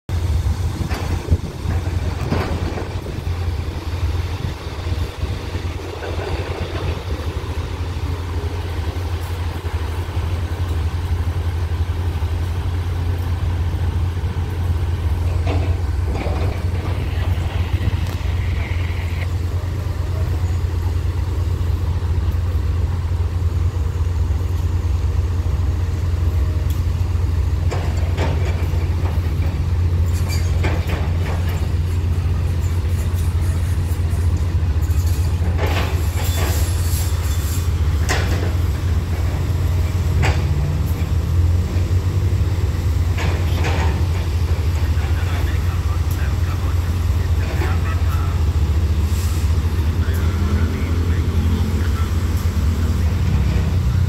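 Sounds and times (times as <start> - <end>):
diesel engines idling: 0.1 - 54.0.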